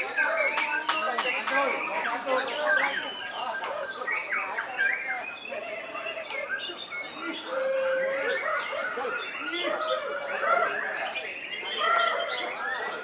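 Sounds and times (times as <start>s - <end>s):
birds singing whistles and chirps: 0.0s - 13.0s.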